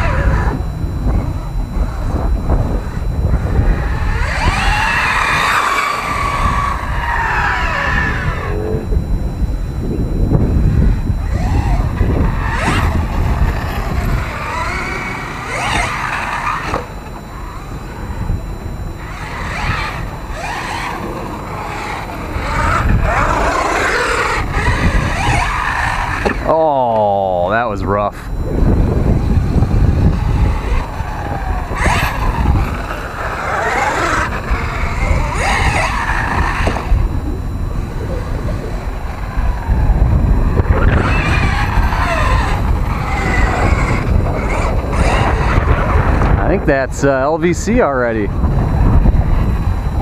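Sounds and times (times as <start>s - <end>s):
electric motor whining: 0.0s - 50.0s
wind on microphone: 0.0s - 50.0s.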